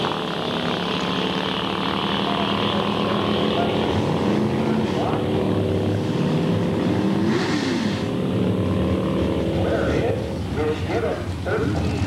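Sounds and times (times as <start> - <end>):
car and motorcycle engines running: 0.0 - 12.0.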